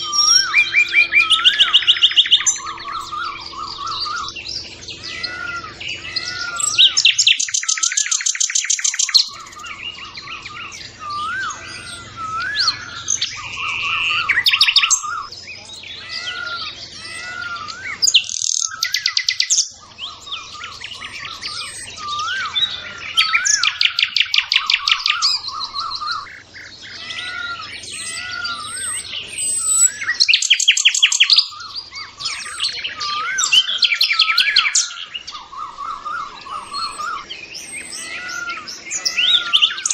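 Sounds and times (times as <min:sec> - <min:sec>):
rattling bird trills: 0:00.0 - 0:39.9
rising whistled bird notes: 0:00.0 - 0:39.9
songbirds singing and chirping: 0:00.0 - 0:39.9.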